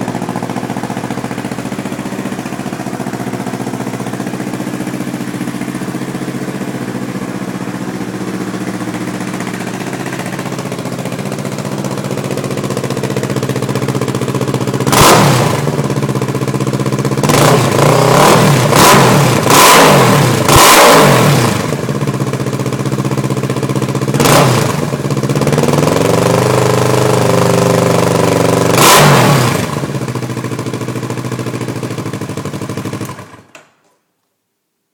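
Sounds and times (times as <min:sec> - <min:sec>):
motorcycle engine idling and revving: 0:00.0 - 0:33.6.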